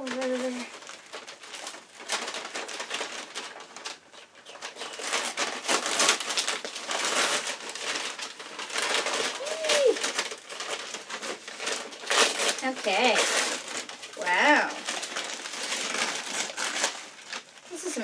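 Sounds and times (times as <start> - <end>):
paper wrapping crinkling: 0.0 - 18.0.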